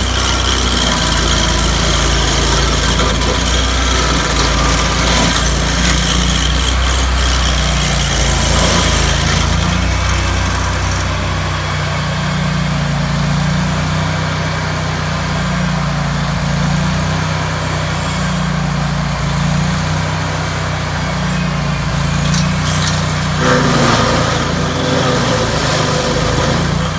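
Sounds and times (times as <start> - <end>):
cutting wheel grinding roots: 0.0 - 12.7, 15.5 - 26.9
stump grinder engine: 0.0 - 26.9.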